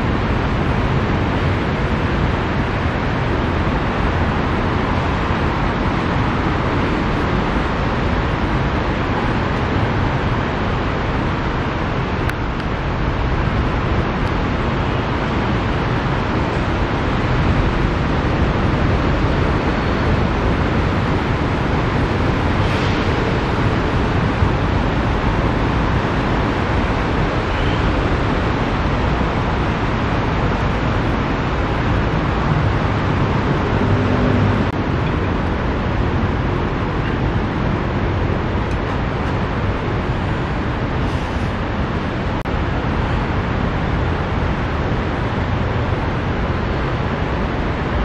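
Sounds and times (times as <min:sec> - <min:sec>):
heavy rain: 0:00.0 - 0:48.0
road traffic: 0:00.0 - 0:48.0.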